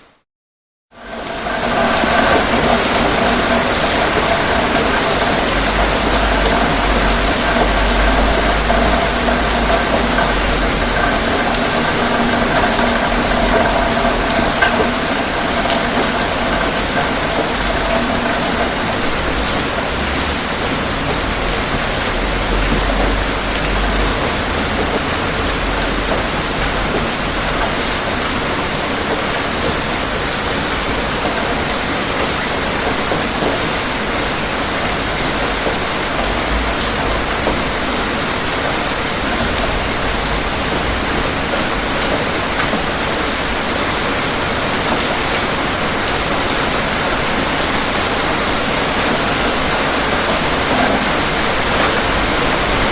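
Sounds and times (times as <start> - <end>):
rain pattering on surfaces: 0.9 - 52.9.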